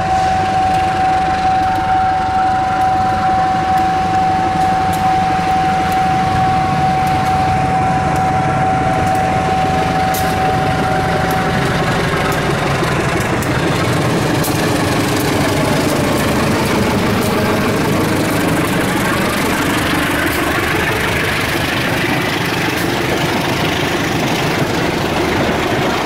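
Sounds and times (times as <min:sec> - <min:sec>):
diesel locomotive engine running: 0:00.0 - 0:26.0
steady high tone: 0:00.0 - 0:26.0.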